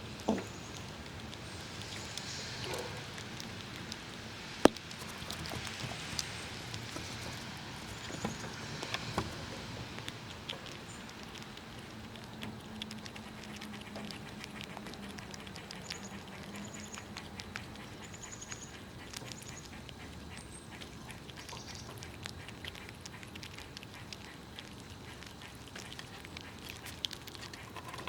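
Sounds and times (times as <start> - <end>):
squirrels cracking nuts: 0.0 - 28.0
squirrel chirps: 0.2 - 9.2, 9.9 - 28.0.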